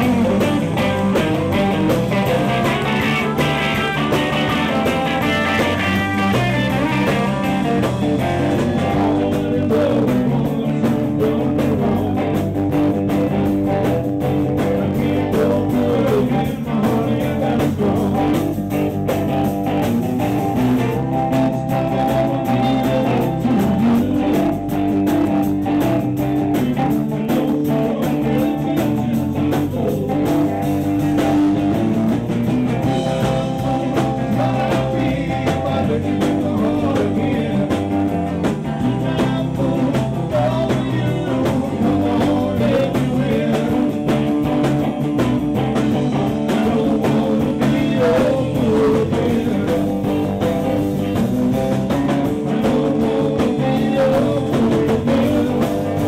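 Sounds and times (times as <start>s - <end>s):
bass guitar: 0.0s - 56.0s
drums: 0.0s - 56.0s
electric guitar: 0.0s - 56.0s.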